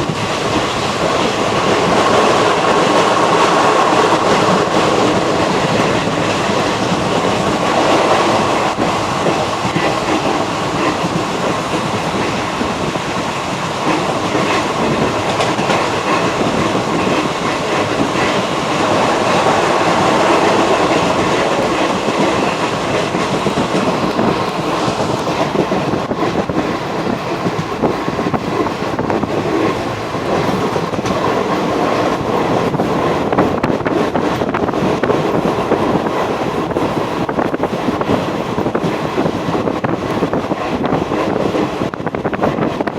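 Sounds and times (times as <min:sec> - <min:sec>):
train wheels on track: 0:00.0 - 0:42.9.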